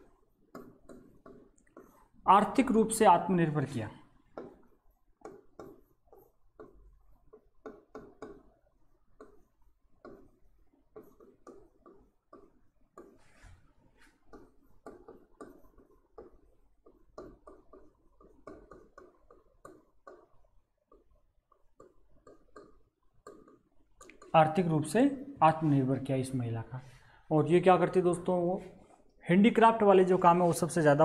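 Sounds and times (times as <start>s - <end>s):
marker pen writing on whiteboard: 0.0s - 26.5s.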